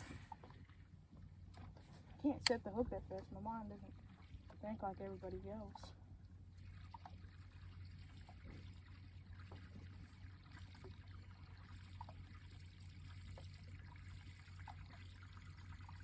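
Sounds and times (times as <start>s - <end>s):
low steady hum: 0.0s - 16.0s
water trickling and lapping: 0.0s - 16.0s.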